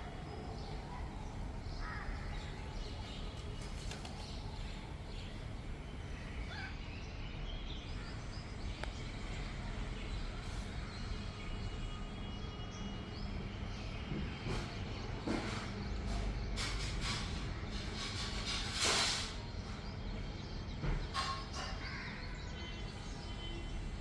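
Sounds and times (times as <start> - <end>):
low traffic rumble: 0.0 - 24.0.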